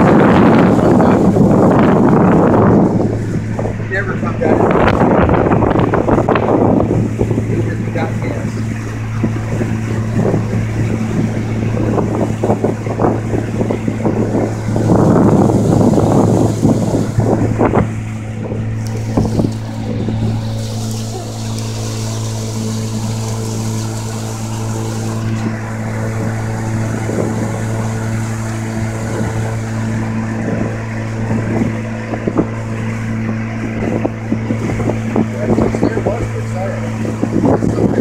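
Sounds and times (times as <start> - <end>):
boat motor humming: 0.0 - 38.0
wind noise on microphone: 0.0 - 38.0.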